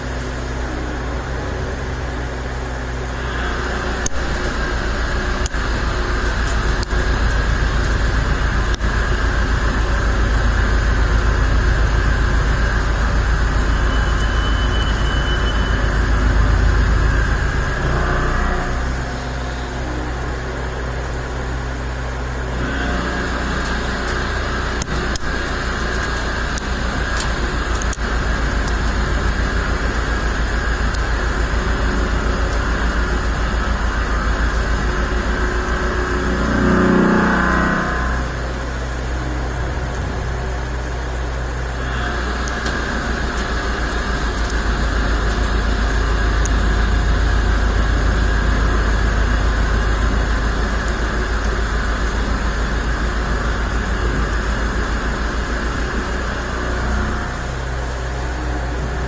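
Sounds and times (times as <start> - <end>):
machining centre drone: 0.0 - 59.0.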